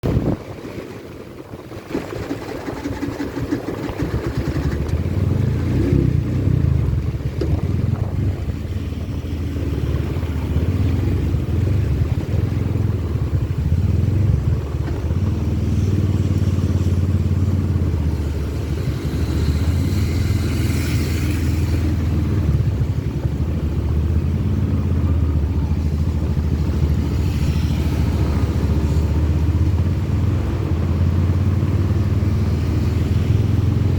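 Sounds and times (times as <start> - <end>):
vehicle engine droning: 2.7 - 33.9.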